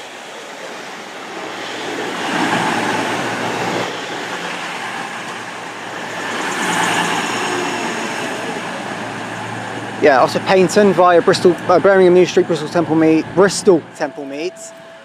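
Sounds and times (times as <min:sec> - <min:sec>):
train engines rumbling: 0:00.0 - 0:15.0.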